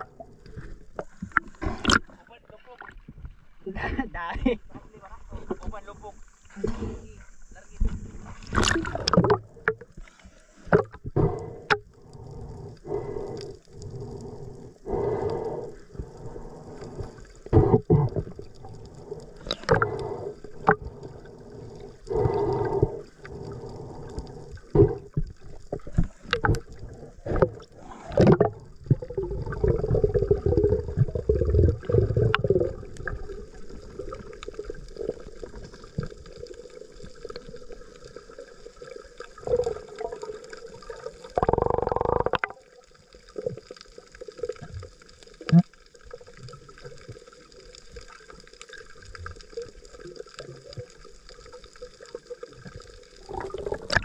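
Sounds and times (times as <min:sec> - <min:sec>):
underwater bubbling and gurgling: 0:00.0 - 0:54.0.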